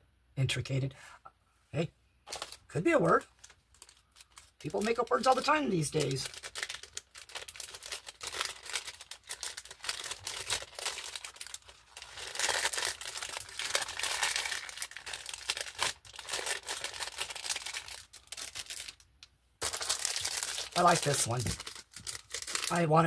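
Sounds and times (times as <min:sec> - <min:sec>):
plastic bag crinkling: 0:02.3 - 0:22.9.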